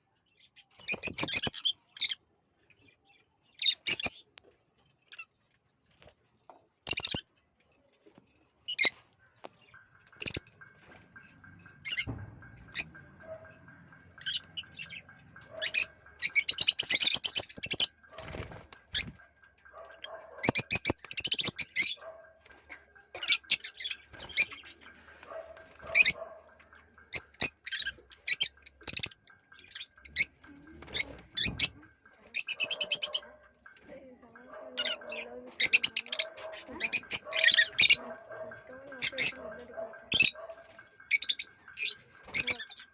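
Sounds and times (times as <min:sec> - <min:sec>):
parrots chirping and screeching: 0:00.6 - 0:02.2, 0:03.5 - 0:04.3, 0:05.0 - 0:05.4, 0:06.8 - 0:07.3, 0:08.6 - 0:42.9.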